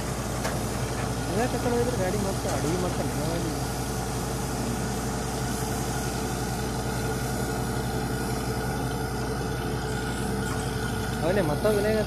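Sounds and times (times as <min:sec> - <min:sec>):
drilling rig engine drone: 0:00.0 - 0:12.0
steady hiss: 0:00.0 - 0:12.0.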